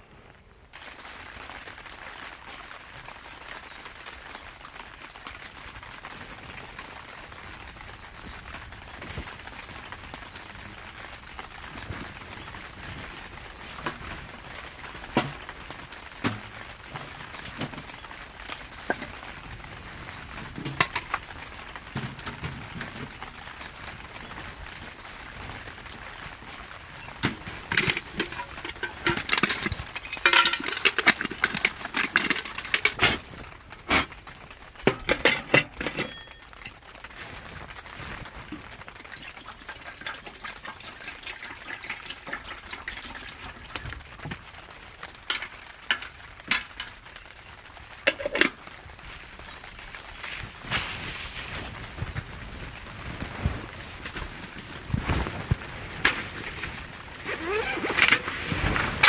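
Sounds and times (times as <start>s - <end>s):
loud crackling and rustling: 0.7s - 59.0s.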